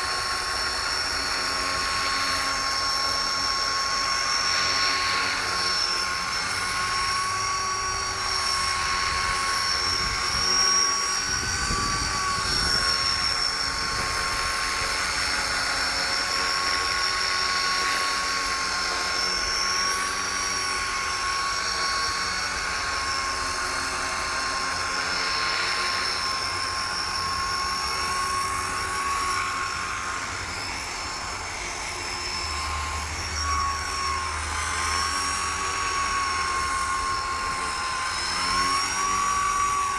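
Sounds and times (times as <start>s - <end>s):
rc helicopter whine: 0.0s - 39.9s.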